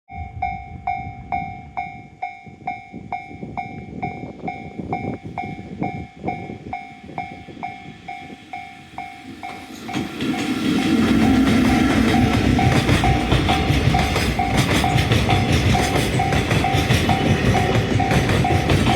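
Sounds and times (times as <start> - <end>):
approaching freight train: 0.1 - 18.9.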